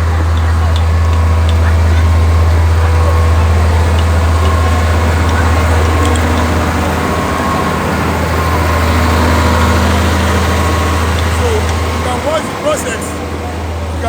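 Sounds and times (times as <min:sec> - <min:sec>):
large engine humming: 0:00.0 - 0:14.0.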